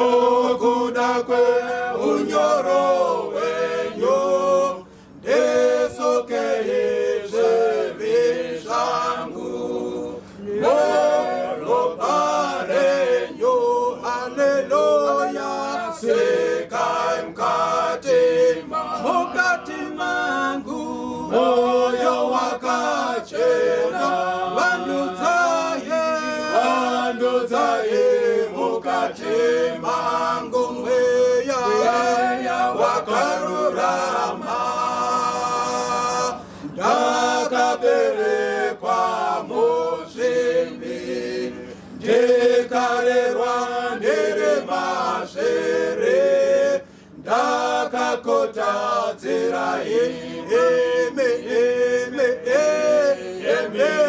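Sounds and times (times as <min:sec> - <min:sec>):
men singing a hymn a cappella: 0:00.0 - 0:54.0.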